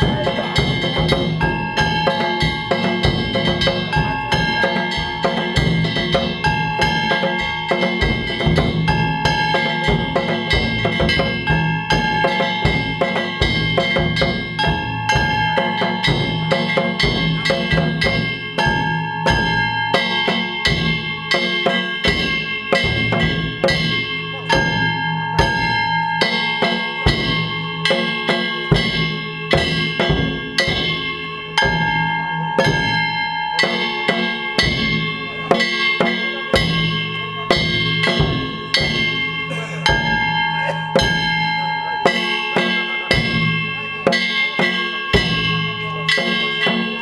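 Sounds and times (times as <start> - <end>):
small bronze gongs ringing: 0.0 - 47.0
taiko drums: 0.0 - 47.0.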